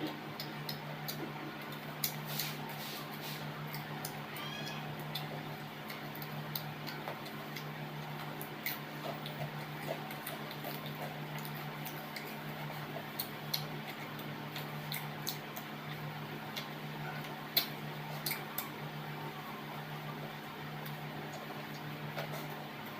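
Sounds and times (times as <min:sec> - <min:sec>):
chewing and mouth noises: 0:00.0 - 0:22.9
steady low hum: 0:00.0 - 0:22.9.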